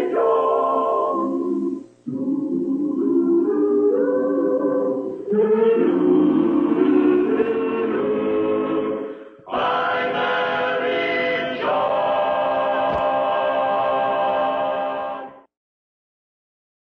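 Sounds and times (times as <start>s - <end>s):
choir singing held chords: 0.0s - 15.5s.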